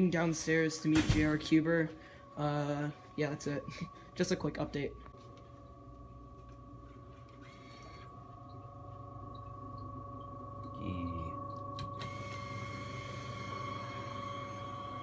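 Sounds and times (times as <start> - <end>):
machine hum with whining tones: 0.0 - 15.0.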